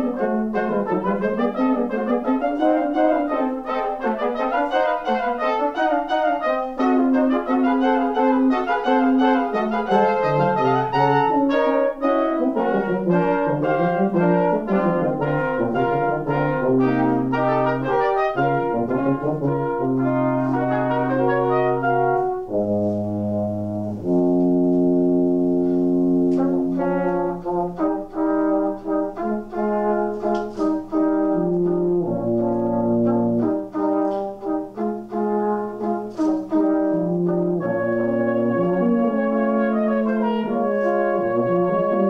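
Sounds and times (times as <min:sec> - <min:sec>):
brass quartet playing: 0:00.0 - 0:42.0.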